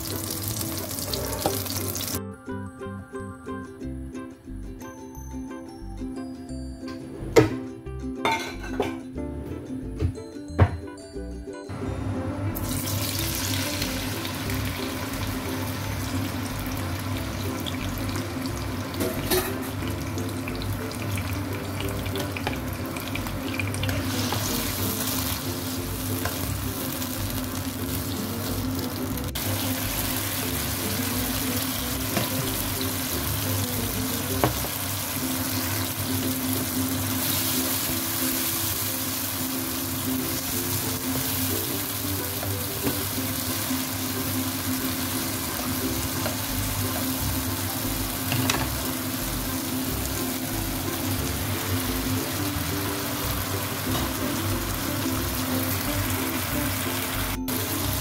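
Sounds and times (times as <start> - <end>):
tomatoes sizzling in hot oil: 0.0 - 2.2, 12.5 - 58.0
background music with bass line: 0.0 - 58.0.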